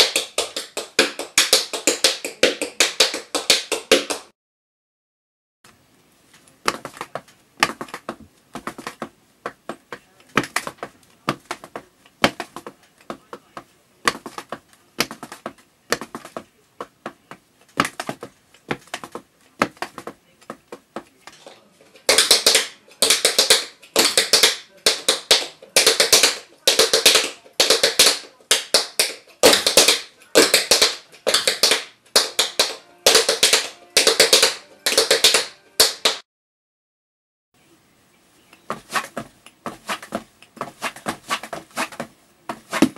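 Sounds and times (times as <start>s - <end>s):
tap shoes clicking on floor: 0.0s - 4.3s, 6.7s - 21.2s, 22.0s - 36.2s, 38.7s - 42.9s.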